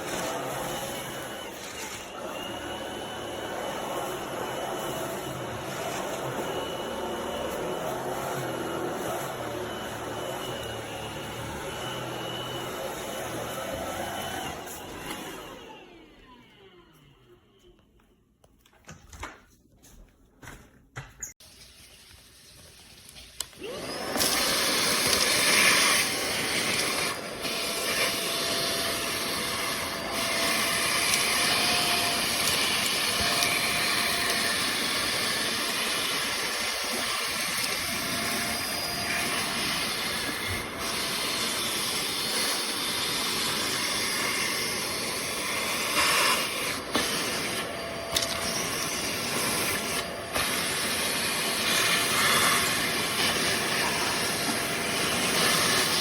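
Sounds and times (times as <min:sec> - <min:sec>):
stick vacuum running: 0:00.0 - 0:17.1, 0:23.4 - 0:56.0.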